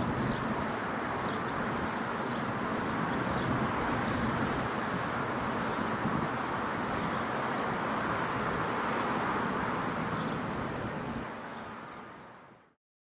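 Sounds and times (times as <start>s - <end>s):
rushing vehicle noise: 0.0s - 12.7s.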